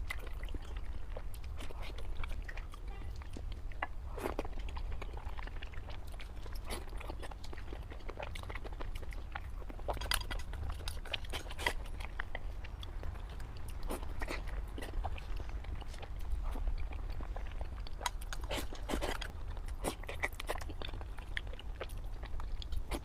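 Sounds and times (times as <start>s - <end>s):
mouth and teeth clicks: 0.0s - 23.0s
person chewing food: 0.0s - 23.0s
steady low hum: 0.0s - 23.0s.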